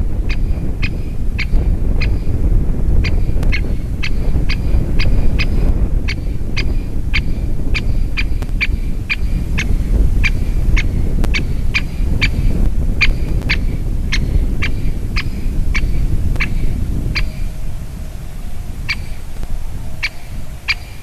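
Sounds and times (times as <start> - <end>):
steady low rumble: 0.0 - 21.0
woodpecker kik calls: 3.0 - 17.8, 18.8 - 21.0.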